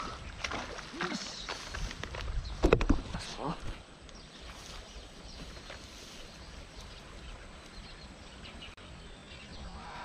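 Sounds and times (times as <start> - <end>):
birds chirping: 0.0 - 10.0
outdoor background hiss: 0.0 - 10.0.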